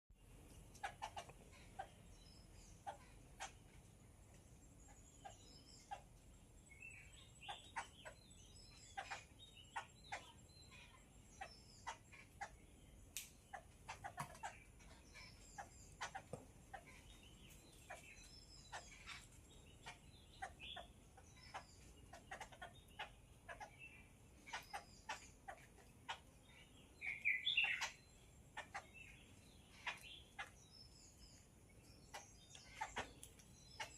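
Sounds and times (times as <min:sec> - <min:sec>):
birds chattering calls: 0:00.2 - 0:33.9.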